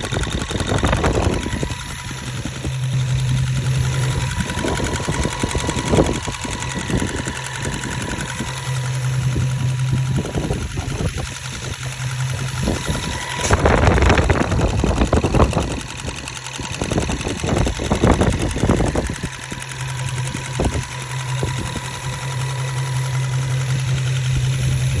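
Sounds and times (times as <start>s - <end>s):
engine low hum: 0.0s - 25.0s
sharp engine ticking: 0.0s - 25.0s.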